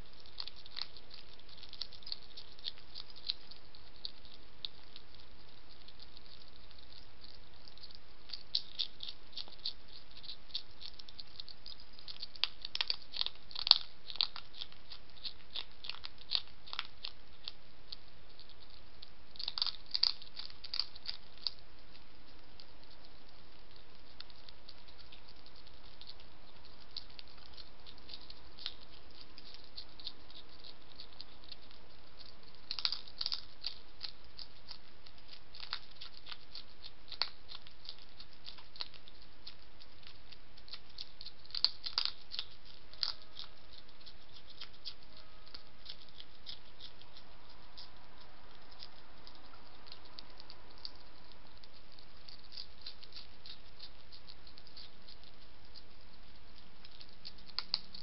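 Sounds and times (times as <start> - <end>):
background hiss: 0.0 - 58.0
hedgehog chewing and crunching food: 0.0 - 58.0.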